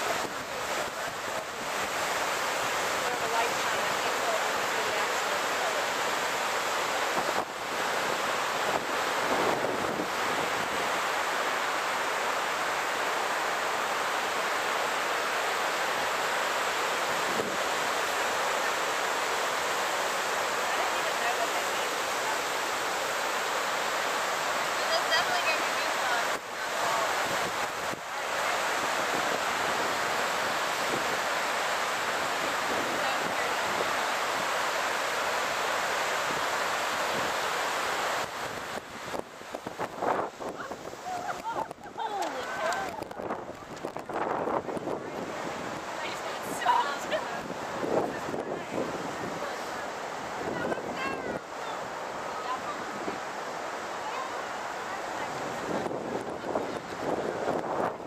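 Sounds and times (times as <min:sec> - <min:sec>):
cascading water rushing: 0:00.0 - 0:58.0.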